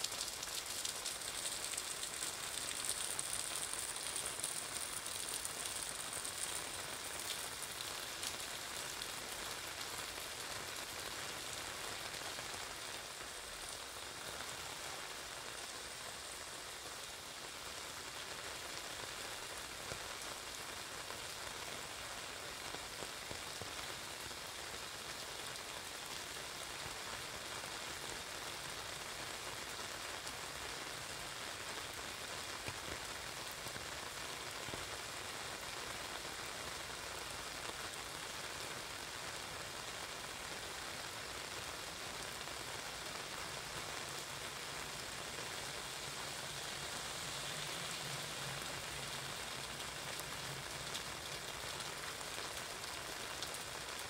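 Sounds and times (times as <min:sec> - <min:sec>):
rain pattering on an umbrella: 0:00.0 - 0:54.0.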